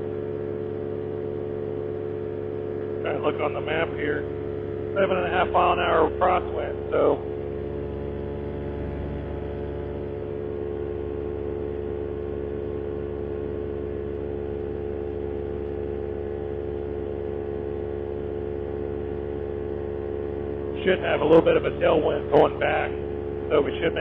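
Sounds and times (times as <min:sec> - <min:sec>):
paramotor engine droning: 0:00.0 - 0:24.0.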